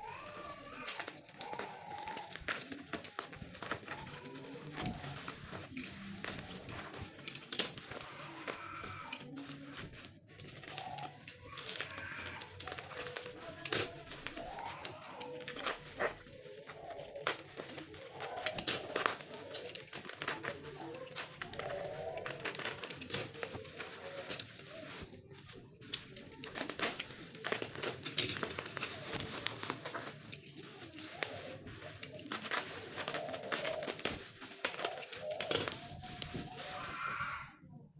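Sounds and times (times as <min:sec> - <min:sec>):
packaging crinkling and tearing: 0:00.0 - 0:37.5.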